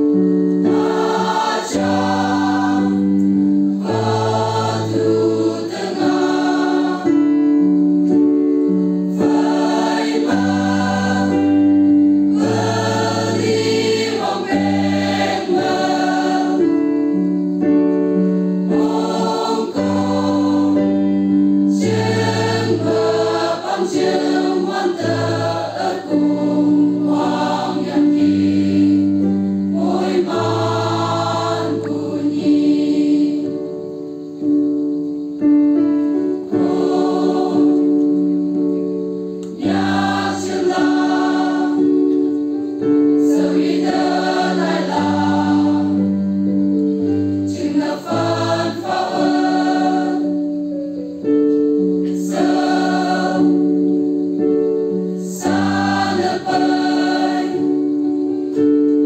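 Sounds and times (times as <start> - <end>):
mixed choir singing in harmony: 0.0 - 34.5, 36.0 - 59.0.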